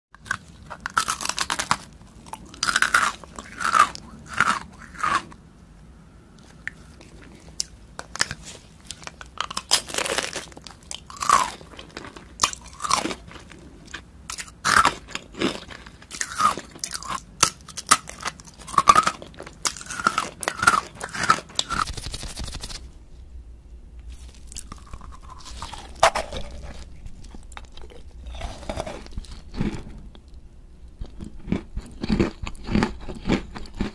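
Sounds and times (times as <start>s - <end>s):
crunchy candy bites and chewing: 0.2s - 5.4s, 7.0s - 22.8s, 24.2s - 33.9s.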